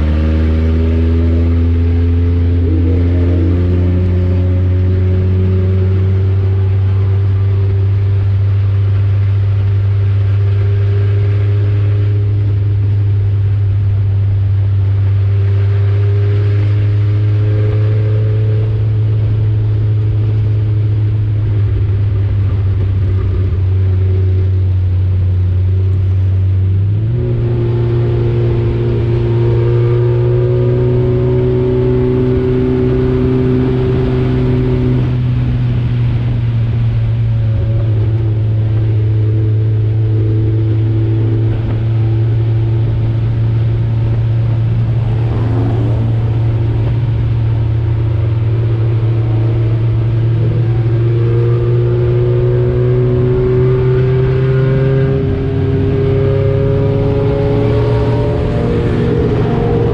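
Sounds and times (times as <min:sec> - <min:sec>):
race car engine under load: 0:00.0 - 0:59.9.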